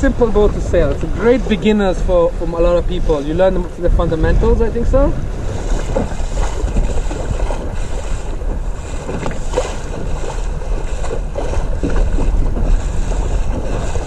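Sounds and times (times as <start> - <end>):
water rushing along hull: 0.0 - 14.0
water splashes: 0.0 - 14.0
wind buffeting microphone: 0.0 - 14.0.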